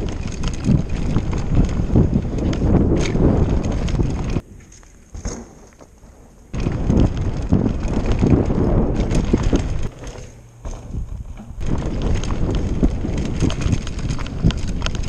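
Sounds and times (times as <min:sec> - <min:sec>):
wind buffeting microphone: 0:00.0 - 0:04.6, 0:06.5 - 0:15.0
bike rattling on rough ground: 0:00.0 - 0:15.0
bike tyre rumble: 0:00.0 - 0:15.0.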